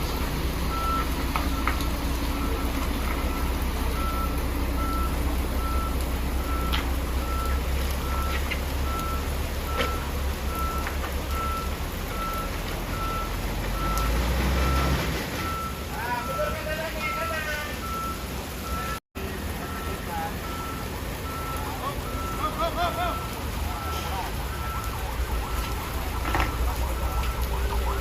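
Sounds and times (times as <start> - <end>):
heavy truck engine rumble: 0.0 - 28.0
truck reversing alarm beeping: 0.0 - 28.0.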